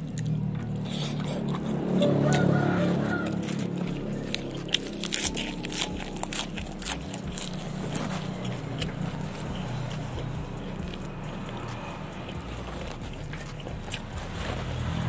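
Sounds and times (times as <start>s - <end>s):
wet crunchy chewing: 0.0s - 15.0s.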